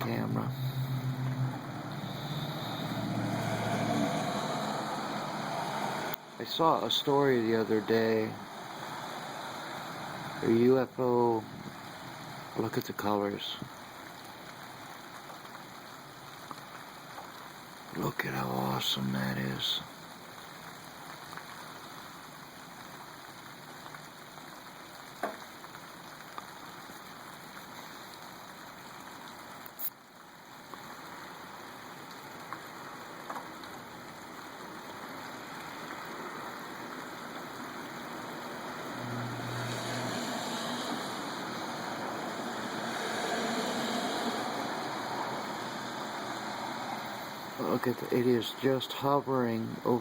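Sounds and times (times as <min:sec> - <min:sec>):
light rain hissing: 0:00.0 - 0:50.0.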